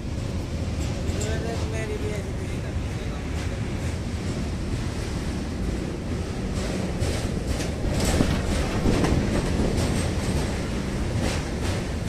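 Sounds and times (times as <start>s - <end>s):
train wheels rumbling on rails: 0.0s - 12.0s
wheels clacking over rail joints: 0.3s - 4.5s, 6.3s - 12.0s.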